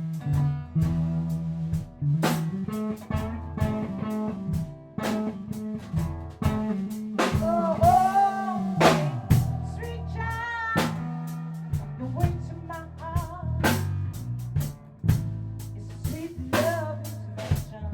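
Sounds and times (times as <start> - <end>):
sliding bent guitar notes: 0.0 - 17.5
blues-rock band playing: 0.0 - 17.9.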